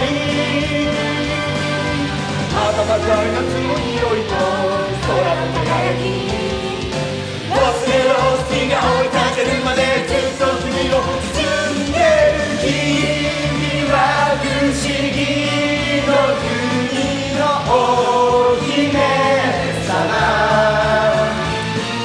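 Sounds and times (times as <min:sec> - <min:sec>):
voices singing held notes: 0:00.0 - 0:21.9.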